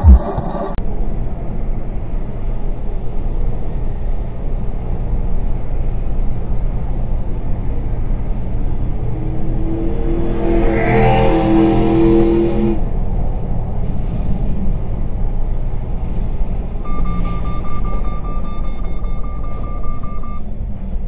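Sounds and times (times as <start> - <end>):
engine drone: 0.0 - 21.0
road noise inside vehicle: 0.0 - 21.0.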